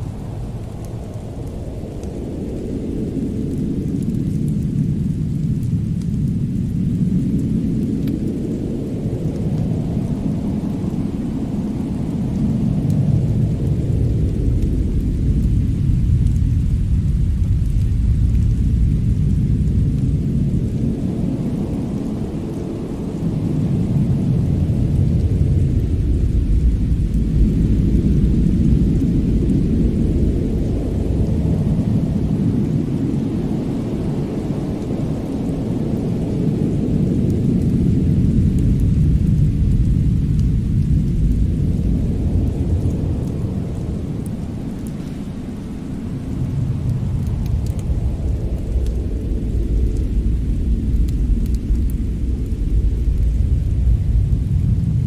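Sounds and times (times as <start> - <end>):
deep rumbling noise: 6.4 - 34.8, 35.4 - 55.0.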